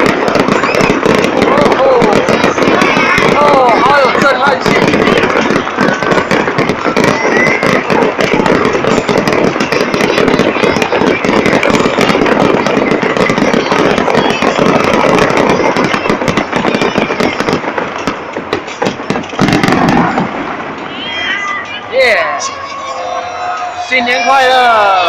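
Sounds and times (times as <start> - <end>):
fireworks cracking and popping: 0.0 - 25.0.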